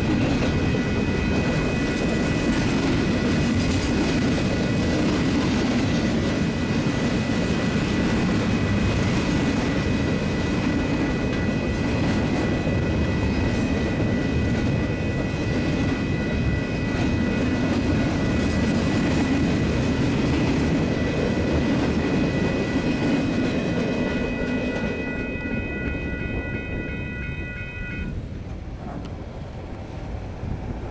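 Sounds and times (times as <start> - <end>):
high ringing tone: 0.0 - 3.6, 6.6 - 28.8
freight train rumbling past: 0.0 - 30.9.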